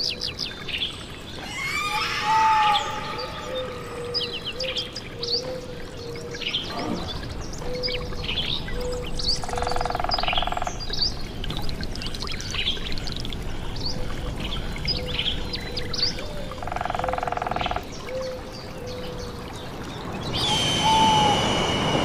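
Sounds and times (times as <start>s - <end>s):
flowing water: 0.0s - 22.0s.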